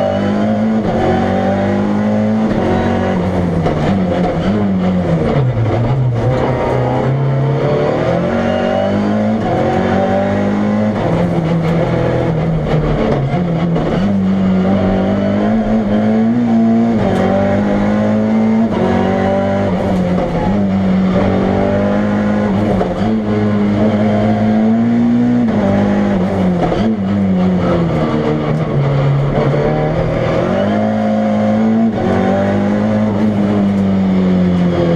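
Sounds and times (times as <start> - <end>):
race car engine at full throttle: 0.0 - 34.9.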